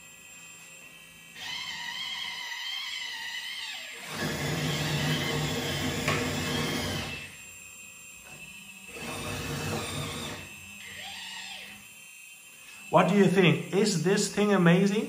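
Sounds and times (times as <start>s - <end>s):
hydraulic pump whirring: 0.6s - 15.0s.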